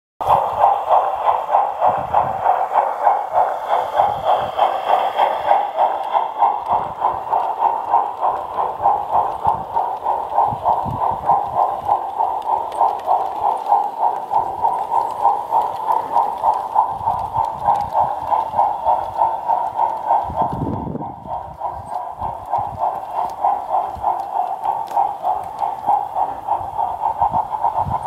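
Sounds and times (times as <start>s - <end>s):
model steam locomotive chuffing: 0.2s - 28.0s.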